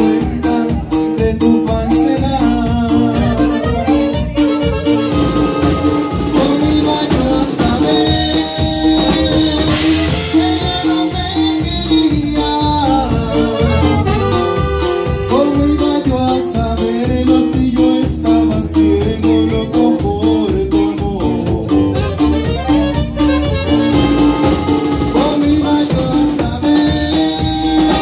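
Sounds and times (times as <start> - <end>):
band playing accordion music: 0.0 - 28.0.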